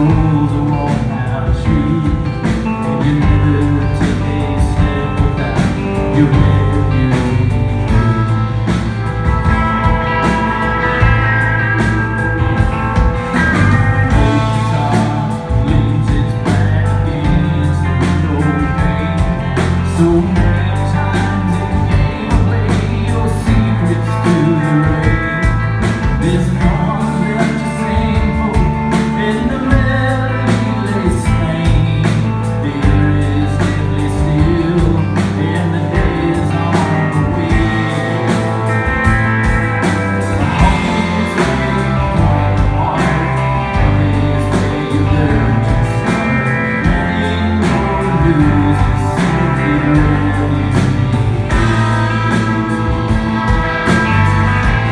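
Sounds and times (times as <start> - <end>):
drums: 0.0 - 54.9
electric bass: 0.0 - 54.9
electric guitars: 0.0 - 54.9.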